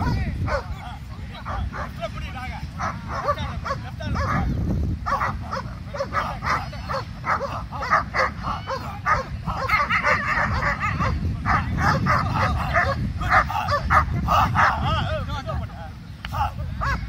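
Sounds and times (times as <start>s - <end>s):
dogs barking rapidly: 0.0s - 15.2s, 16.4s - 17.0s
low rumble of surf: 0.0s - 17.0s.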